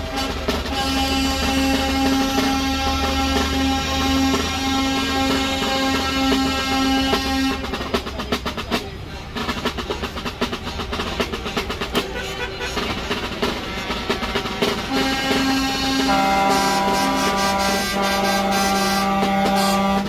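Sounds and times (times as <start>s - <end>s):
snare drum rolls: 0.0s - 20.0s.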